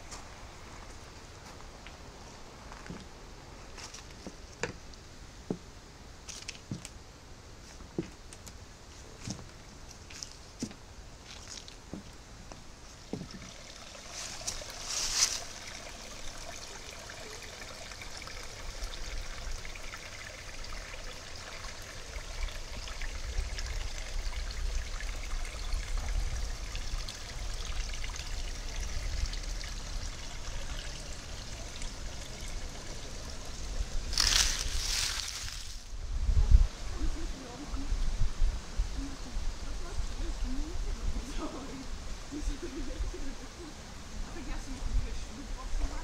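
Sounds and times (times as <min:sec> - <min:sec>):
stream trickling and splashing: 0:00.0 - 0:46.0.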